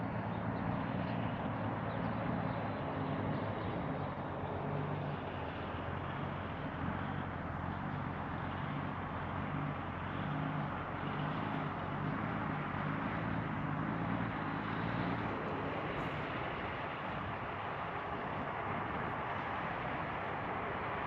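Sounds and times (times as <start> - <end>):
rushing outdoor noise: 0.0 - 21.0
vehicle engine humming: 0.0 - 21.0.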